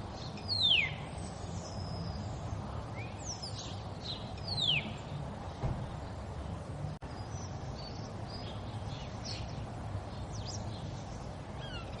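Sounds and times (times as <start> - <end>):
small birds chirping and whistling: 0.1 - 5.2, 7.1 - 12.0.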